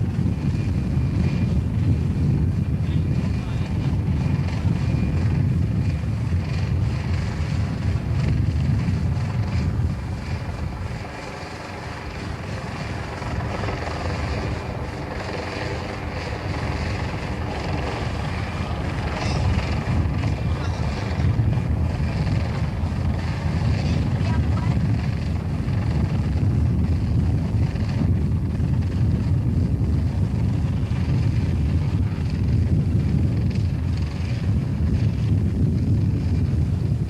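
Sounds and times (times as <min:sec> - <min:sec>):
helicopter rotor and engine: 0:00.0 - 0:37.0
wind buffeting microphone: 0:00.0 - 0:37.0.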